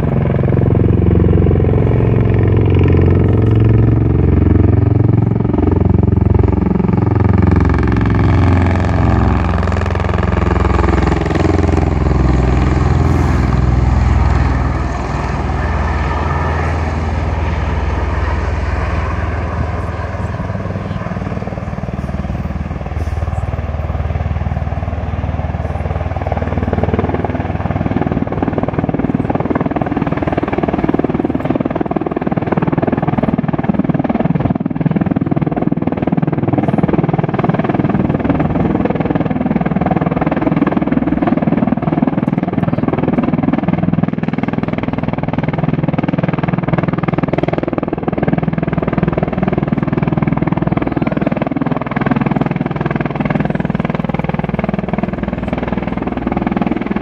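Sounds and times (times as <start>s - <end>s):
aircraft rotor drone: 0.0s - 57.0s.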